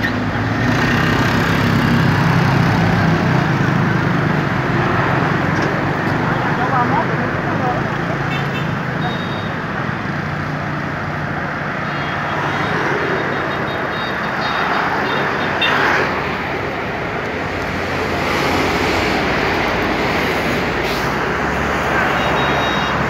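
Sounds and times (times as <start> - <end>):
road traffic: 0.0 - 23.0.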